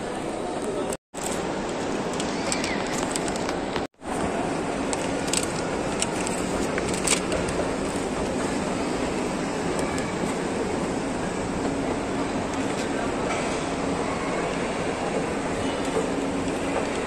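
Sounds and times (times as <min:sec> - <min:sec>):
crowd and building noise: 0:00.0 - 0:17.0.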